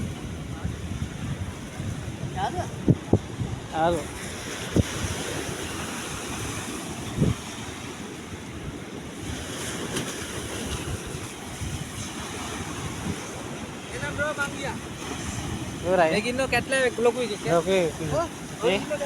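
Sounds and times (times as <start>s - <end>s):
wind and waves: 0.0s - 19.0s
wind buffeting the microphone: 0.0s - 19.0s.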